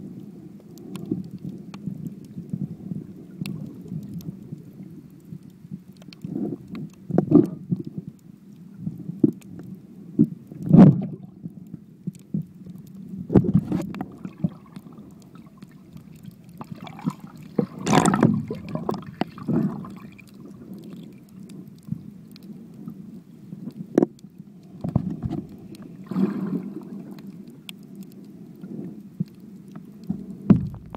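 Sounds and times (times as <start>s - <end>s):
muffled underwater rumble: 0.0s - 30.9s.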